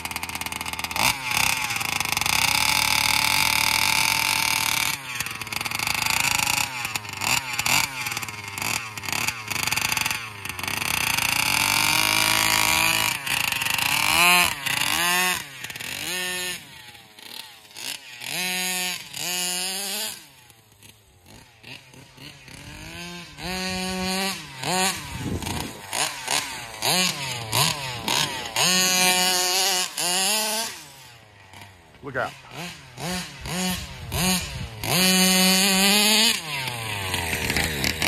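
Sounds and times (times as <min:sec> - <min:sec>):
two-stroke engine revving: 0:00.0 - 0:38.0.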